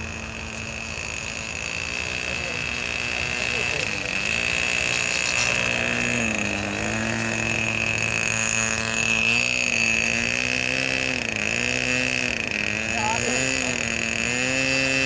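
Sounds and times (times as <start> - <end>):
model aircraft motor and propeller: 0.0 - 15.0.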